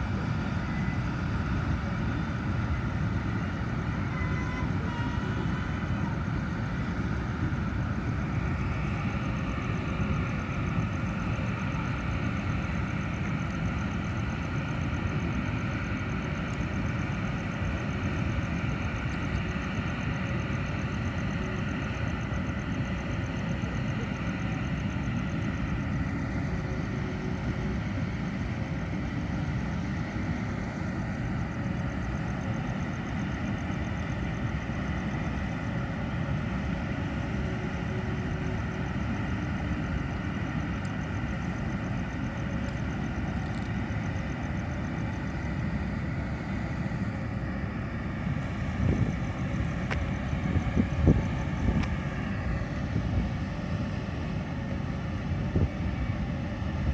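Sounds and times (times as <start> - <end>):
engine running: 0.0 - 56.9.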